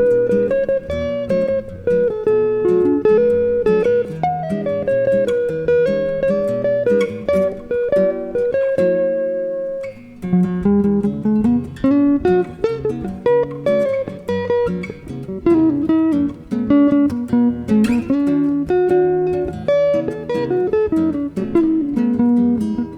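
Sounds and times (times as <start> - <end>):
electric guitar: 0.0 - 22.9
nylon-string guitar: 0.0 - 22.9.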